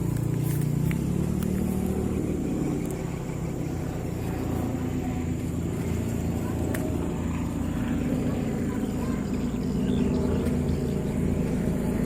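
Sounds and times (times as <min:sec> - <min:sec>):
helicopter rotor and engine: 0:00.0 - 0:12.0.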